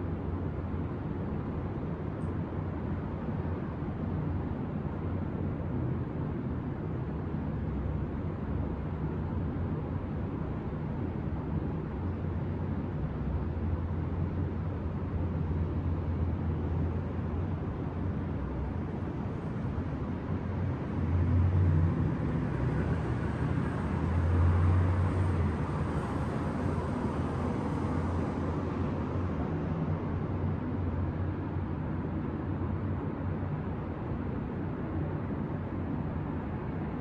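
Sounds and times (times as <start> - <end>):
city traffic rumble: 0.0 - 37.0.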